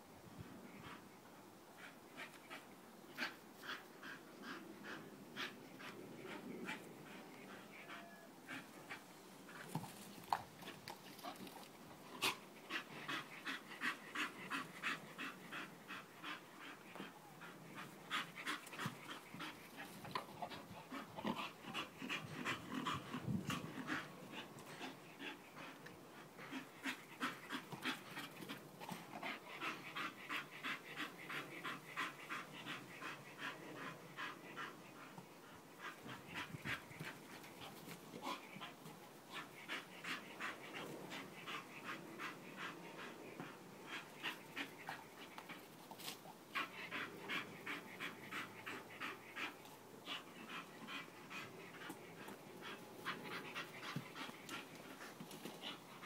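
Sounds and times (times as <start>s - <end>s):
dog panting: 1.7s - 56.0s.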